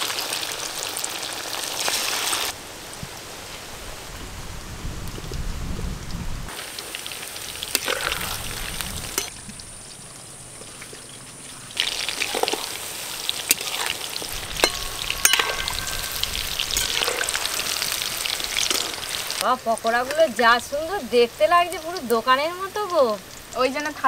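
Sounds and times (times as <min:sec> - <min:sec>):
oil bubbling and sizzling: 0:00.0 - 0:24.0.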